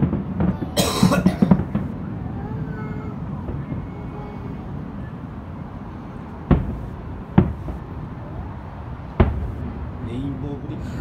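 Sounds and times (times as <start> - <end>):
distant fireworks booms: 0.0 - 10.8
steady low rumble: 1.3 - 11.0.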